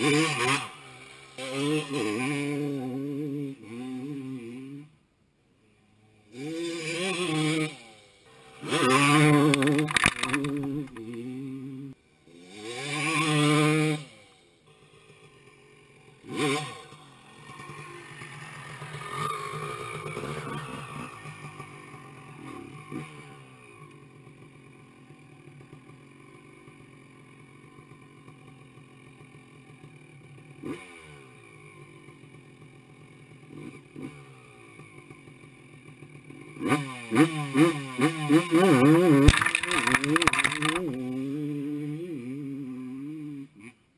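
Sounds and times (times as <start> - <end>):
dirt bike engine revving: 0.0 - 5.0, 5.8 - 43.8.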